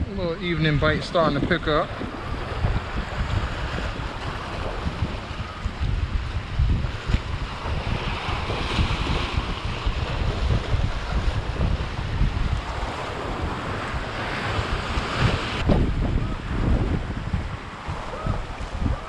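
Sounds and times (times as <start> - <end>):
surf washing on shore: 0.0 - 19.0
wind buffeting microphone: 0.0 - 19.0.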